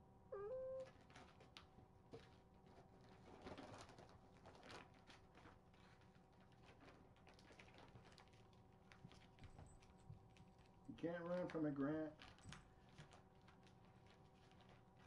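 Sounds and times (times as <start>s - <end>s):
paper rustling and light clicks: 0.8s - 15.0s.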